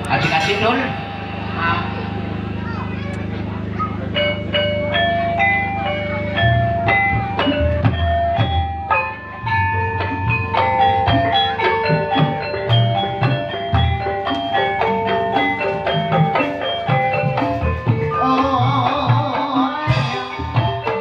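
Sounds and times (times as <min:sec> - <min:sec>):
metallophone notes: 0:00.0 - 0:21.0
wavering melodic line: 0:00.0 - 0:21.0
hand drum beats: 0:03.6 - 0:21.0.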